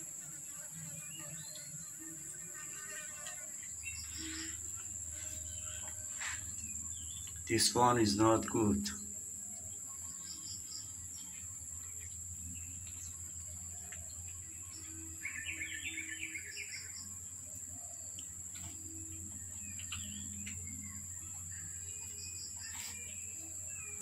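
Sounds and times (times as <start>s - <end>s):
birds chirping: 3.6s - 24.0s.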